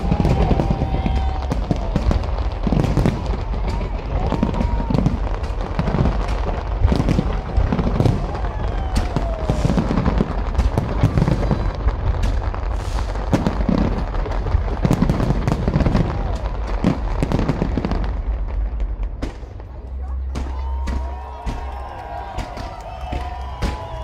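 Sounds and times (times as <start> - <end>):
fireworks bursting and crackling: 0.0 - 24.0
low fireworks booms: 0.0 - 24.0.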